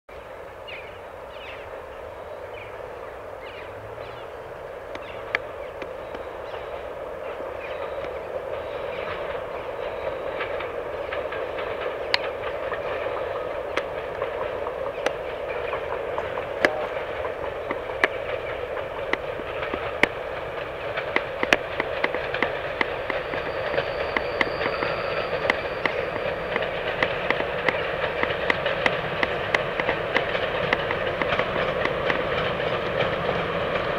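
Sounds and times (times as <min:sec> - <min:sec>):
diesel locomotive engine hum: 0:00.1 - 0:33.9
wheels clicking over rail joints: 0:02.5 - 0:33.9.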